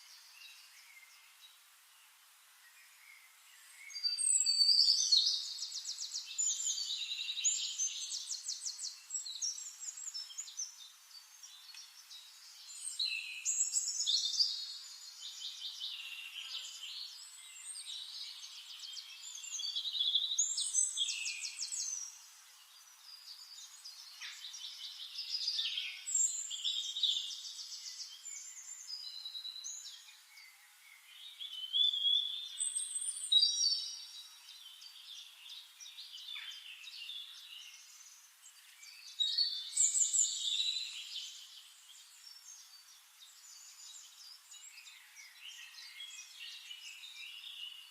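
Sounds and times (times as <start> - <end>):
songbirds trilling and warbling: 0.0 - 47.9.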